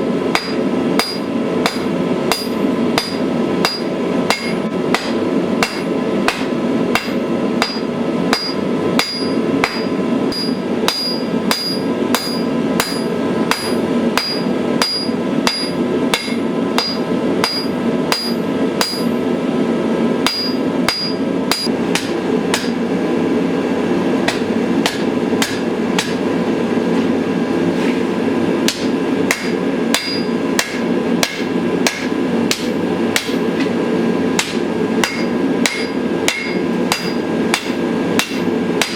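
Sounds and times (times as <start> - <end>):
steady low hum: 0.0 - 38.9
hammer striking metal on anvil: 0.3 - 19.2, 20.2 - 22.8, 24.2 - 26.3, 28.6 - 38.9.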